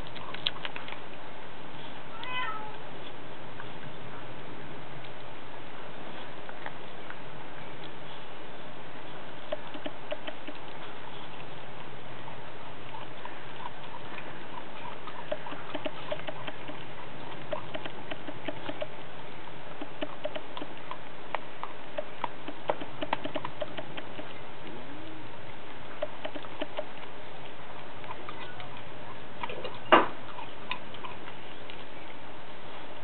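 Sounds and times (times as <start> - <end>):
puppy chewing meat: 0.0 - 1.9, 3.0 - 33.0.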